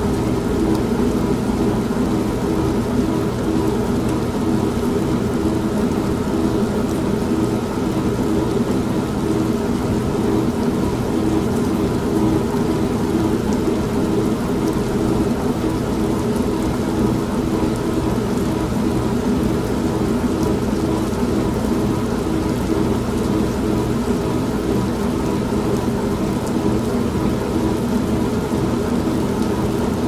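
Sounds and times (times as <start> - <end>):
rain: 0.0 - 30.0
washing machine humming: 0.0 - 30.0.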